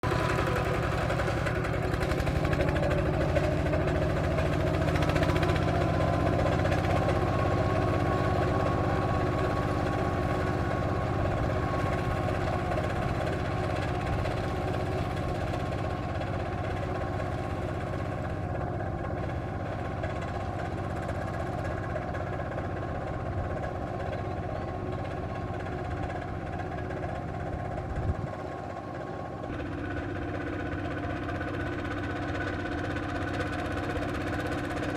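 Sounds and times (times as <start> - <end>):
power tiller engine running: 0.0 - 34.9.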